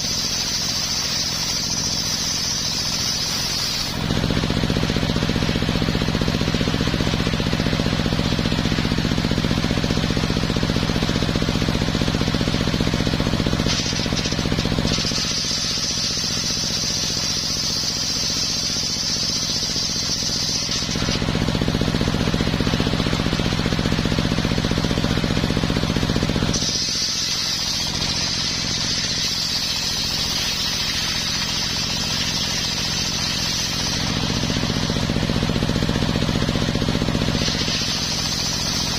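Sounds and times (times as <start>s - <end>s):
saw blade whining through wood: 0.0s - 38.9s
sawmill motor drone: 0.0s - 38.9s.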